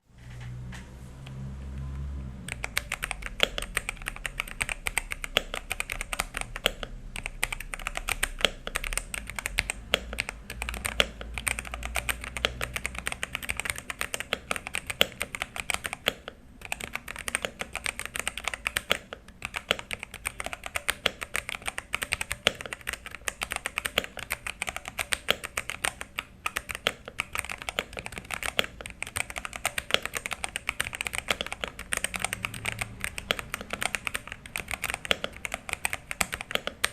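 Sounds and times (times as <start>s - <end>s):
mechanical keyboard typing: 1.8s - 36.9s.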